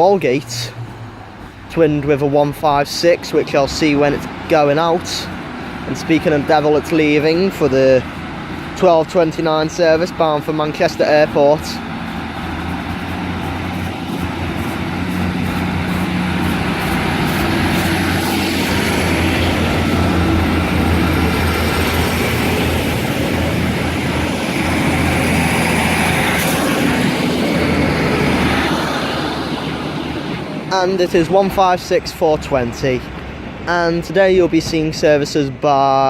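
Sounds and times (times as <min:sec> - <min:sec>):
diesel train engine drone: 0:00.0 - 0:36.0.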